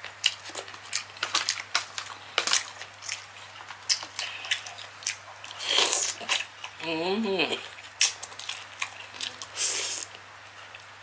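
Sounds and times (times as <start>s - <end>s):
wet chewing and lip smacks: 0.2s - 6.8s, 7.7s - 10.8s.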